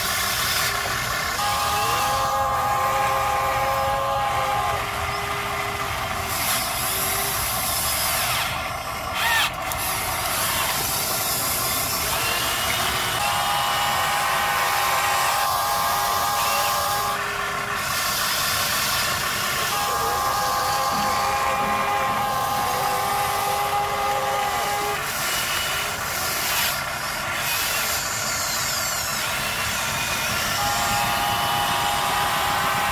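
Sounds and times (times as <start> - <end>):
electric motors whining: 0.0 - 32.9.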